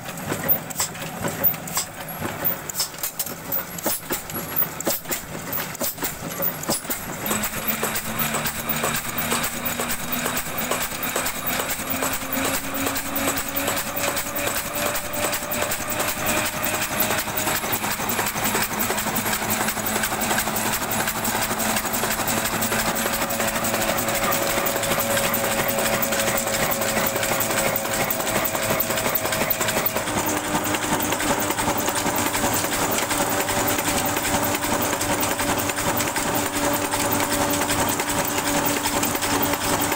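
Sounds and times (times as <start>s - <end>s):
diesel engine clattering: 0.0s - 39.9s
engine hum: 0.0s - 39.9s.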